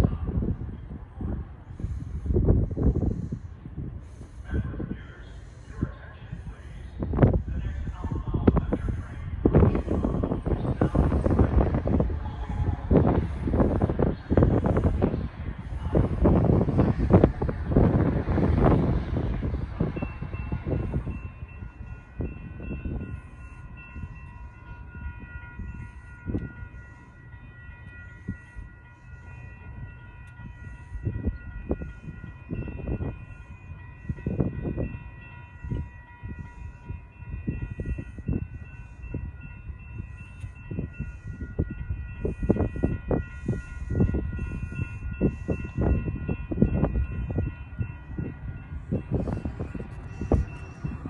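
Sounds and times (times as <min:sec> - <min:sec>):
wind gusting against microphone: 0:00.0 - 0:51.0.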